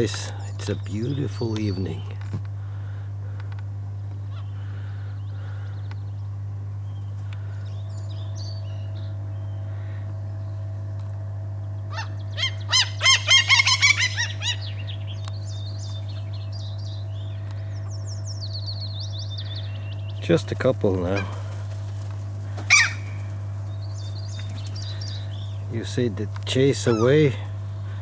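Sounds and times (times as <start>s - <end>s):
gulls calling: 0.0s - 28.0s
steady low hum: 0.0s - 28.0s.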